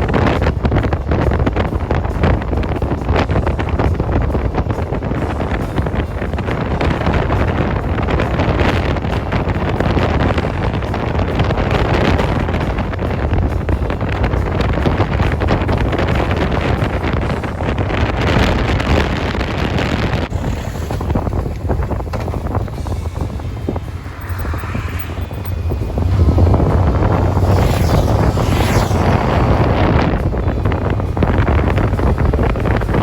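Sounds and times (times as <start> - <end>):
motorcycle low rumble: 0.0 - 33.0
wind buffeting microphone: 0.0 - 33.0.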